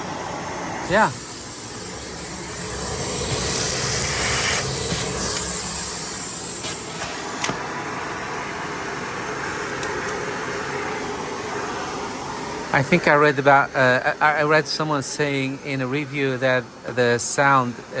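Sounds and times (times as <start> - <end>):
vacuum cleaner running: 0.0 - 15.4.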